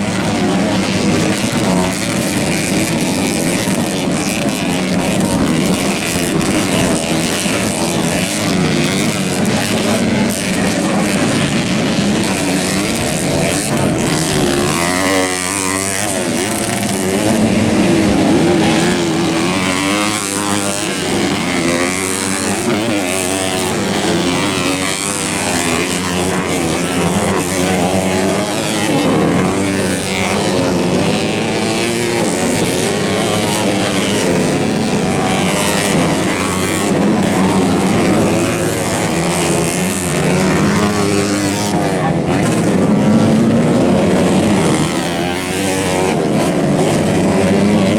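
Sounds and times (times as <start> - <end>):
dirt bike engines revving: 0.0 - 47.9.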